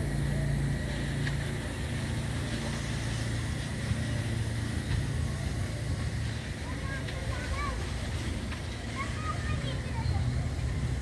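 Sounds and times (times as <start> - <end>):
low engine-like hum: 0.0 - 11.0
outdoor background noise: 0.0 - 11.0.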